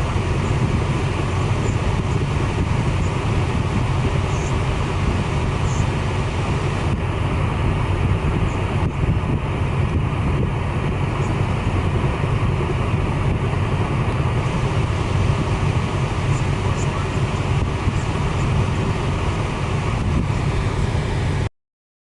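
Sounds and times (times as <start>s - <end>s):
helicopter rotor throb: 0.0s - 21.5s.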